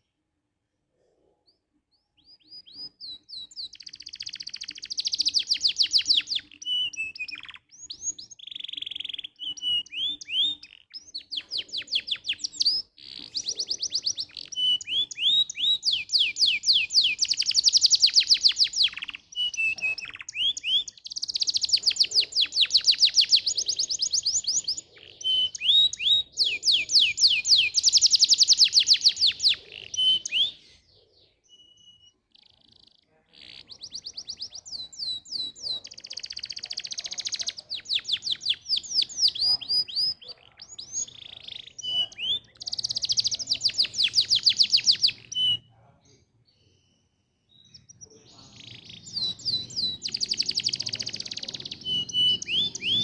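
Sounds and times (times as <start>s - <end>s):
canary singing trills: 1.4s - 53.0s.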